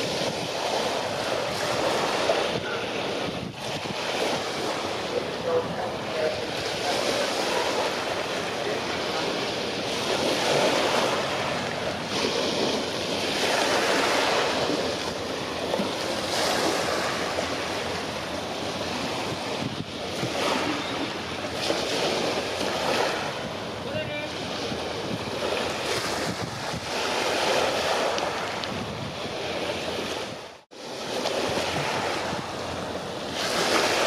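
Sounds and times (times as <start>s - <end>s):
sea waves washing on shore: 0.0s - 34.0s
wind on microphone: 0.0s - 34.0s.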